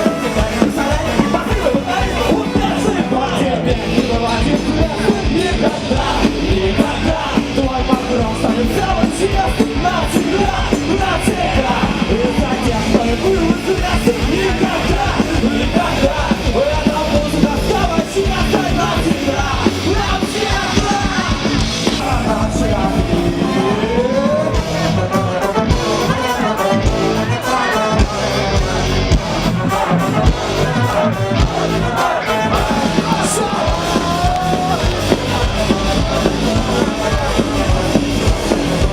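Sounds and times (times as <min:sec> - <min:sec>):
person singing: 0:00.0 - 0:38.9
rock band playing live: 0:00.0 - 0:38.9.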